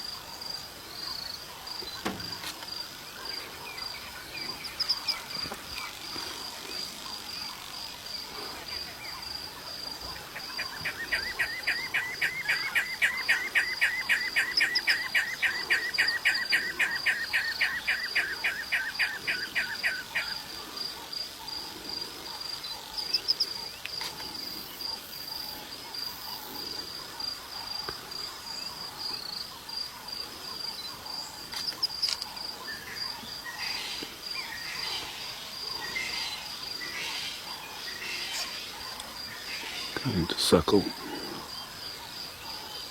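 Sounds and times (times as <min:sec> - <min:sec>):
crickets trilling: 0:00.0 - 0:42.9
rapid repeated insect calls: 0:00.0 - 0:42.9.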